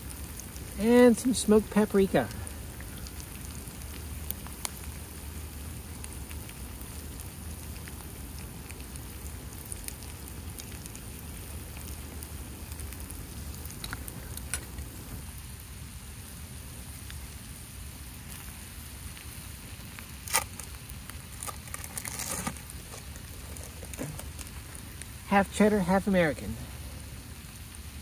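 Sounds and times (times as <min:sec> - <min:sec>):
small pops and crackles: 0:00.0 - 0:25.3
food sizzling in frying pan: 0:00.0 - 0:28.0.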